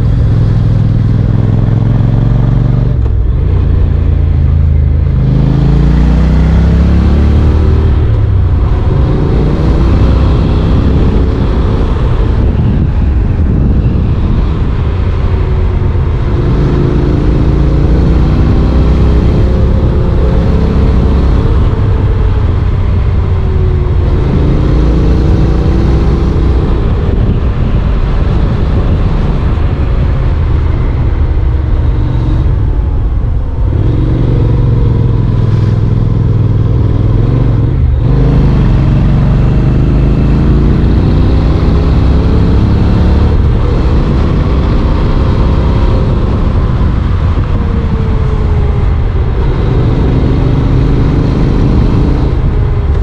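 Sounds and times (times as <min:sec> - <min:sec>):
motorcycle engine revving: 0:00.0 - 0:53.0
steady rushing noise: 0:00.0 - 0:53.0.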